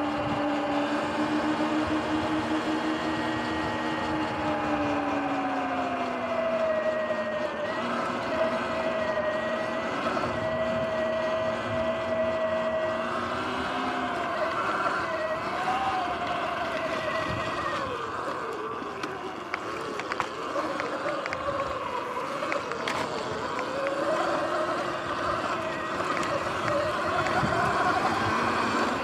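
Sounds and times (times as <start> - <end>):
electric motor whining: 0.0 - 29.0
tyre and wind noise: 0.0 - 29.0.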